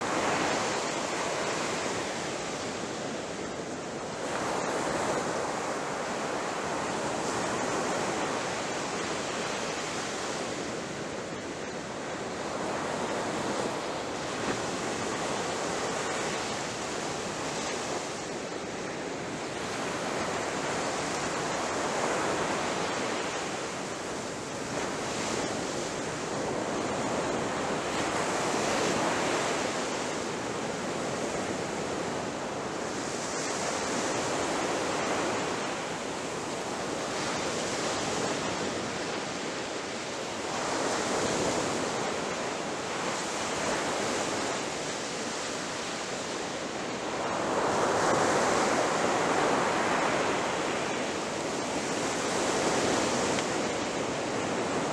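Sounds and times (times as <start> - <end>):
ocean waves crashing: 0.0 - 54.9.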